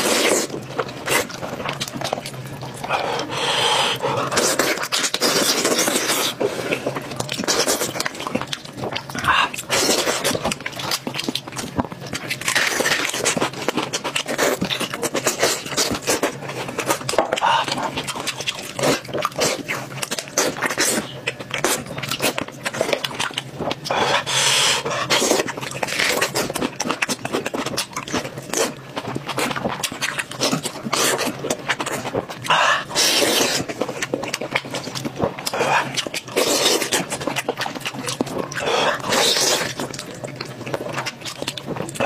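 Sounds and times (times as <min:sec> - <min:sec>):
chewing and mouth smacking: 0:00.0 - 0:42.0.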